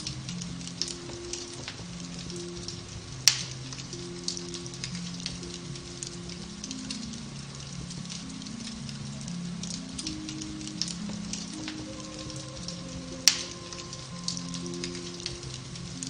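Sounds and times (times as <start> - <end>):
gentle music of low notes: 0.0 - 16.0
log fire crackling: 0.0 - 16.0.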